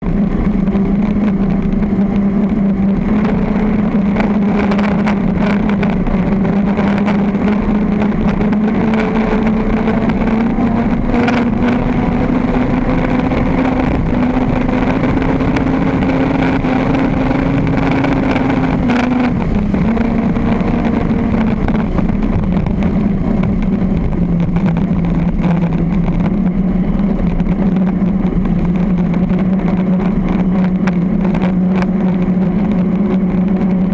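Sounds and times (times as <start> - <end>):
boat engine at high revs: 0.0 - 33.9.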